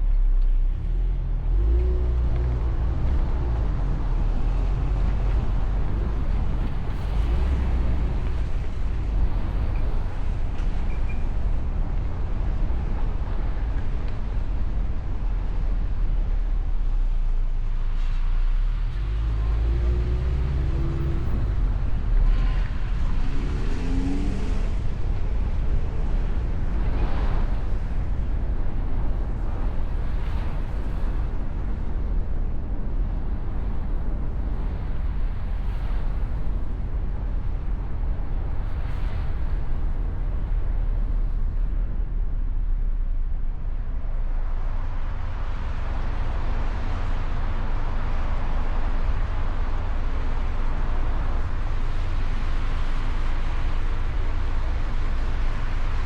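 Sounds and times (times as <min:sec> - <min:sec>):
car engine and road rumble: 0:00.0 - 0:56.0
wind noise: 0:00.0 - 0:56.0.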